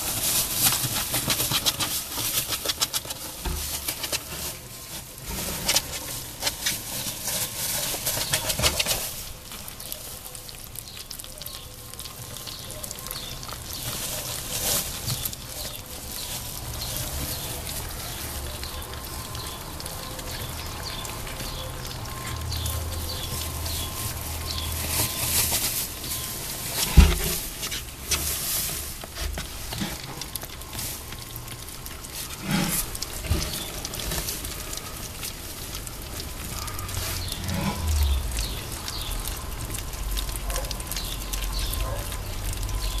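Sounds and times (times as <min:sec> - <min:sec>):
rustling in straw: 0:00.0 - 0:19.1, 0:19.8 - 0:39.8
wet chewing and tearing: 0:00.0 - 0:43.0.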